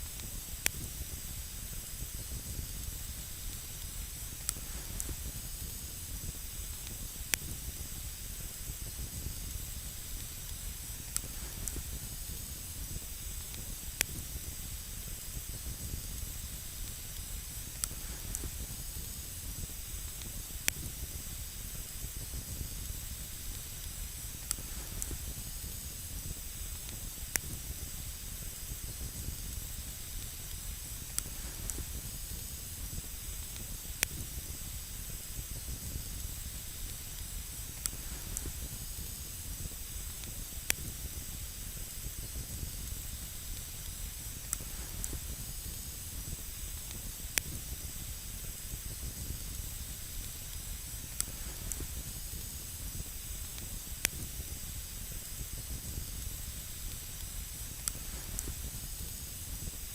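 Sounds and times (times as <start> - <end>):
burning wood crackling: 0.0 - 59.9
campfire burning with hiss: 0.0 - 59.9.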